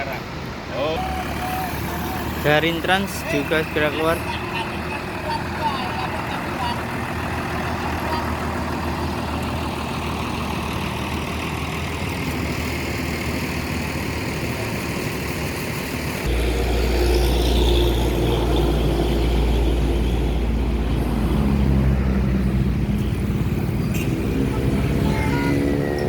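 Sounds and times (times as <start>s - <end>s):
diesel engine idling: 0.3s - 26.0s.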